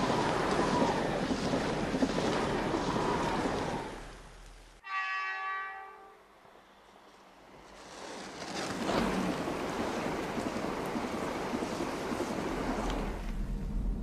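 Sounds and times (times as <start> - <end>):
high-speed train rushing past: 0.0 - 4.2, 6.2 - 14.0.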